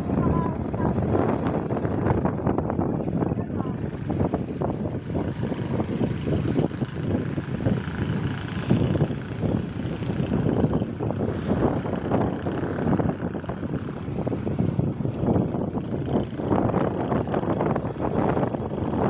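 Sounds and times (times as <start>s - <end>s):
motorbike running: 0.0s - 19.0s
wind buffeting microphone: 0.0s - 19.0s.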